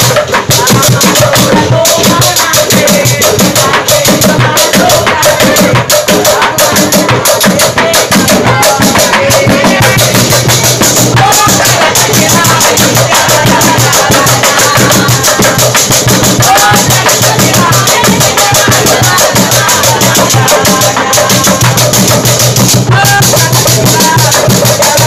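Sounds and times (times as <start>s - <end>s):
drums and percussion beat: 0.0s - 25.0s
men singing and shouting a chant: 0.0s - 25.0s.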